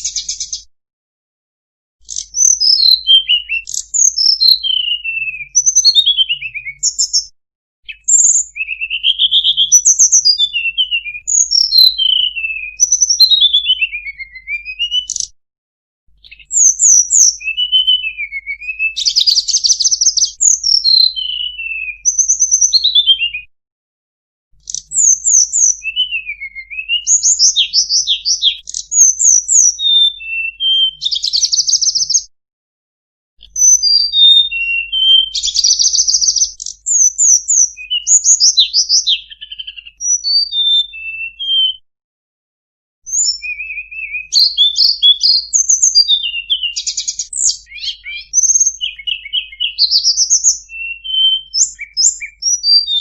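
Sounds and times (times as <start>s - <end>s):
songbird singing: 0.0s - 0.7s, 2.0s - 15.3s, 16.2s - 23.5s, 24.6s - 32.3s, 33.4s - 41.8s, 43.1s - 53.0s.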